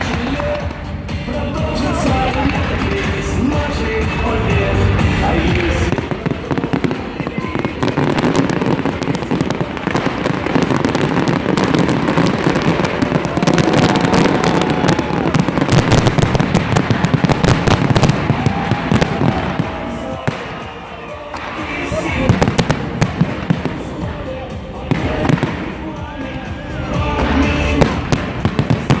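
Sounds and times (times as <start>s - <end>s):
fireworks booming and crackling: 0.0s - 29.0s.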